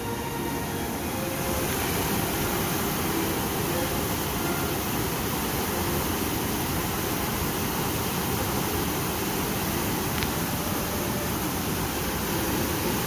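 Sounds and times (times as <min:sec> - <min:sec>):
river rapids rushing over rocks: 0:00.0 - 0:13.0.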